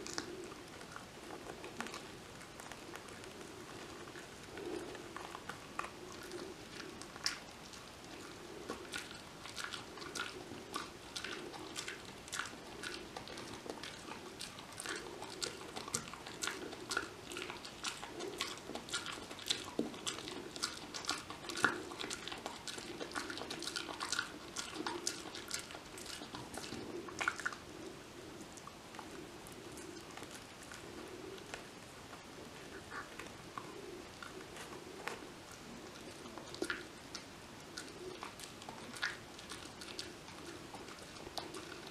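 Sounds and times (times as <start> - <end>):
dog chewing a chew stick: 0.0 - 41.9.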